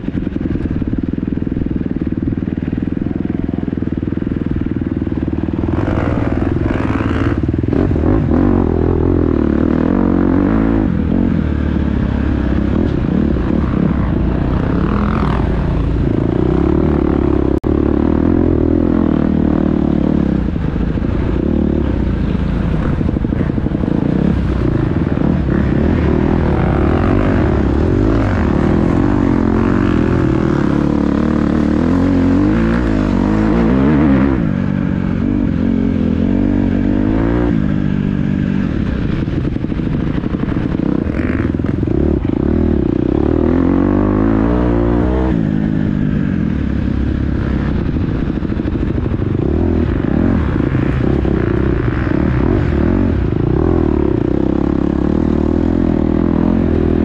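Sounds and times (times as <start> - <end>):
dirt bike engine revving: 2.5 - 57.0.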